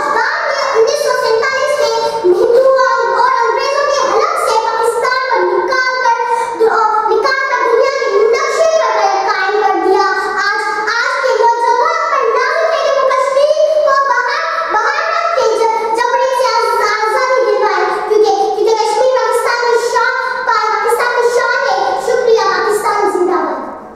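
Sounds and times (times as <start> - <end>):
girl reciting in sing-song voice: 0.0 - 23.8.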